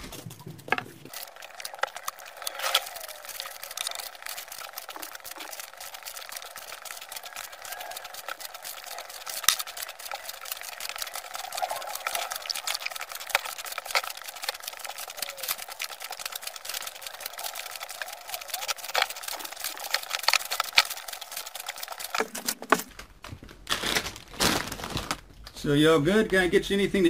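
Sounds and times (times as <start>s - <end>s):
foil bags crinkling: 0.0s - 25.7s.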